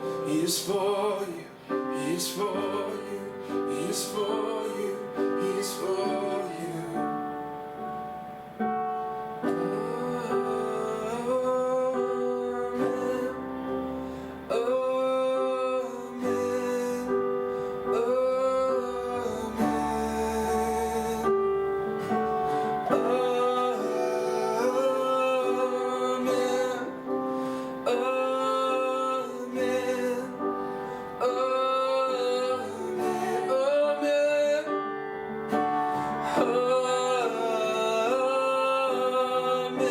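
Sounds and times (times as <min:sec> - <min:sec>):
person singing with vibrato: 0:00.0 - 0:07.9, 0:09.4 - 0:39.9
instrumental accompaniment: 0:01.7 - 0:39.1.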